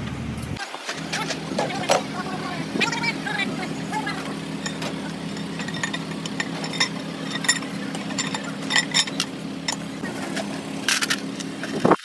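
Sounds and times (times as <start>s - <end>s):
steady low hum: 0.0s - 12.0s
metal tools clinking: 0.9s - 11.9s.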